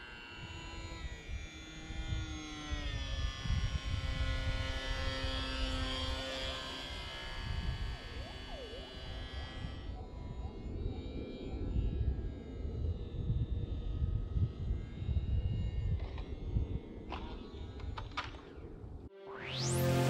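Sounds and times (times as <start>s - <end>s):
electric motor propeller whining: 0.0s - 20.0s.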